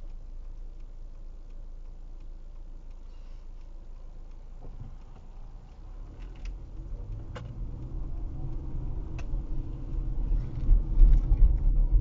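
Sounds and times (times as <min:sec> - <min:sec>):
car engine idling: 0:00.0 - 0:12.0
turn signal ticking: 0:00.0 - 0:12.0.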